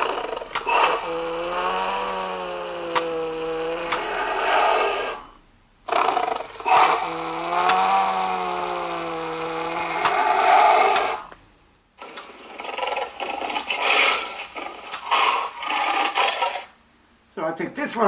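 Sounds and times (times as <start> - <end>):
toy roar like mooing: 0.0 - 11.3, 12.0 - 16.8
toy lion growl: 0.0 - 11.4, 12.0 - 16.8.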